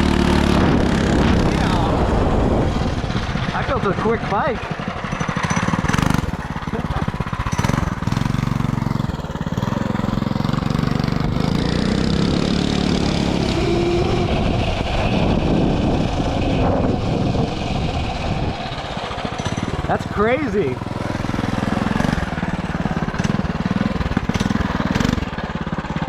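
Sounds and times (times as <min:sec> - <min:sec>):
small engine chugging: 0:00.0 - 0:26.0.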